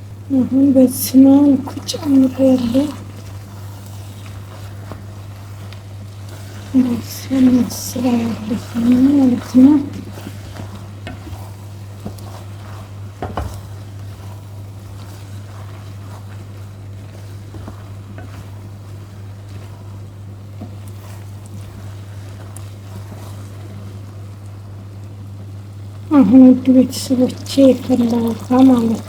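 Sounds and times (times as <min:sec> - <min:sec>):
faint sizzling in a pot: 0:00.0 - 0:29.0.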